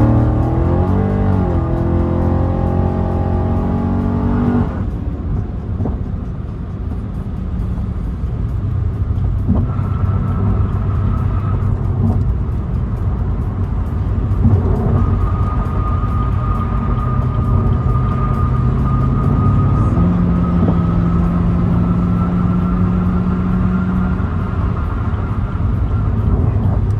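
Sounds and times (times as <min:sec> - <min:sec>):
car engine and exhaust: 0:00.0 - 0:26.9
low driving rumble: 0:00.0 - 0:26.9.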